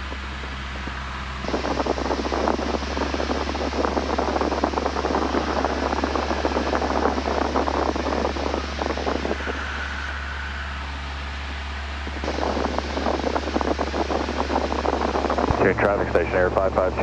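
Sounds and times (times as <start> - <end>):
crackly rushing hiss: 0.0 - 17.0
low engine drone: 0.0 - 17.0.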